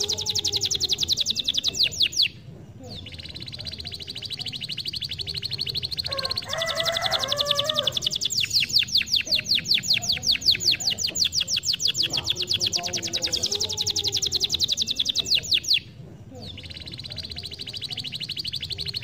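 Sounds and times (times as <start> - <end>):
canary singing trill: 0.0 - 19.0.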